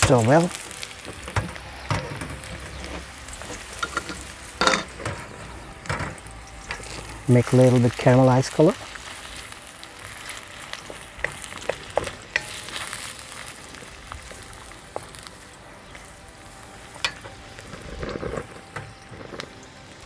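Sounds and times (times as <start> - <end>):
onion and garlic sizzling in oil: 0.0 - 20.0.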